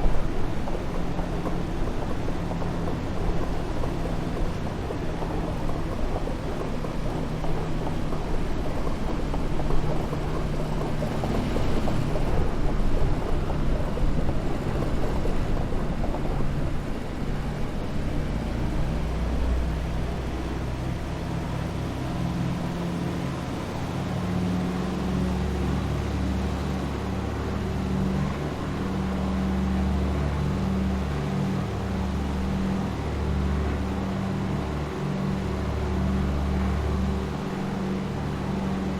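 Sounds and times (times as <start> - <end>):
aircraft piston engines droning: 0.0 - 38.9.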